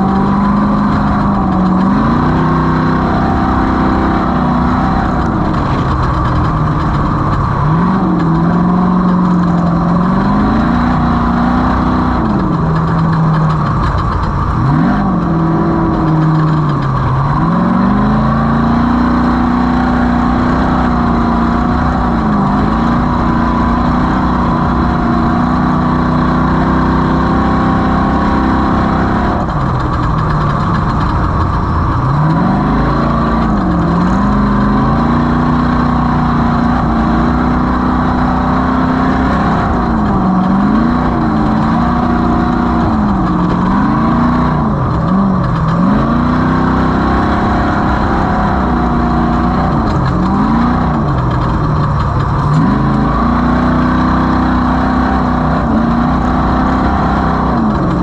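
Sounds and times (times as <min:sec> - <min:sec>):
race vehicle engine revving: 0:00.0 - 0:58.0.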